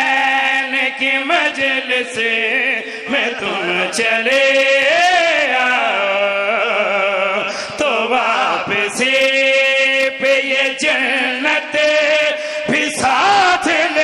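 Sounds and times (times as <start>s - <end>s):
man singing devotional chant: 0.0s - 14.0s.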